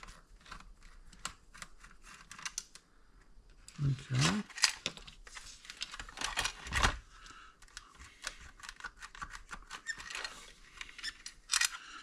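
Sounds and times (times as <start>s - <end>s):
clicks and scrapes of plastic and metal: 0.0s - 7.0s, 7.6s - 11.8s.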